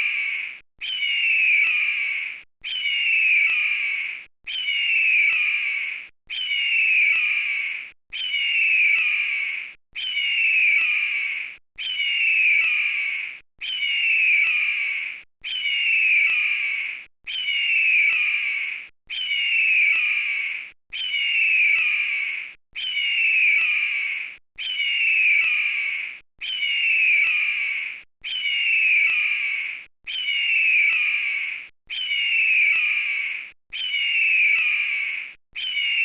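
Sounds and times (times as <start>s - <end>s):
eagle screaming: 0.0s - 36.0s.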